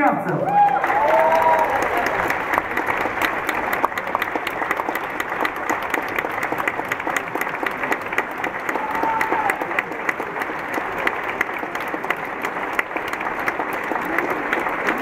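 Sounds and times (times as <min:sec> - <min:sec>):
audience applauding: 0:00.3 - 0:15.0.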